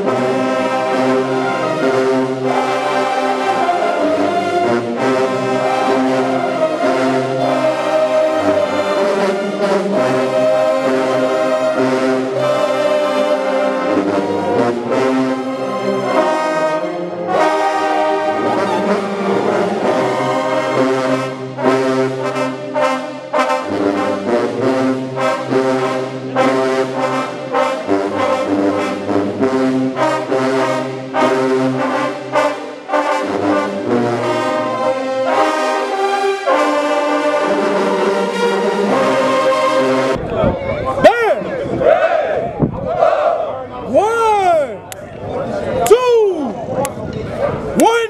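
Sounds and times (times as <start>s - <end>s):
low brass bass line: 0.0s - 43.9s
brass band playing: 0.0s - 44.8s.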